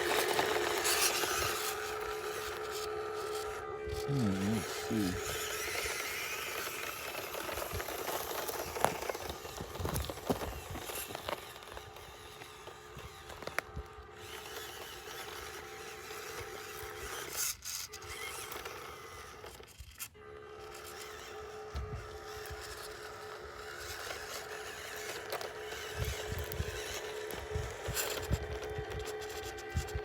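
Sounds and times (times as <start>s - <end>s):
electric motor and gear whine: 0.0s - 30.0s
tyres scrabbling on dirt: 0.0s - 30.0s.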